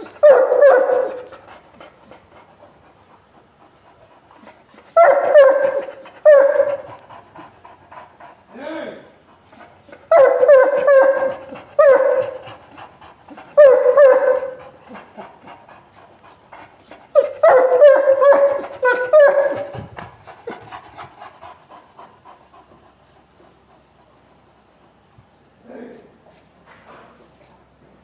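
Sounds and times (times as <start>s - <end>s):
dog panting fast: 0.0s - 28.0s.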